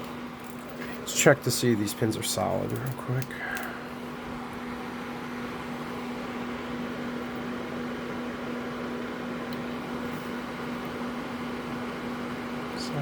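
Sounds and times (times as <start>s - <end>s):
electrical equipment humming: 0.0s - 13.0s.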